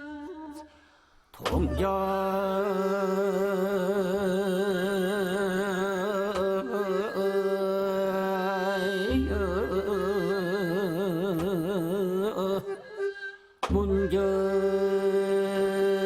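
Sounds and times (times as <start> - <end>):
man singing long held notes: 1.4 - 16.0.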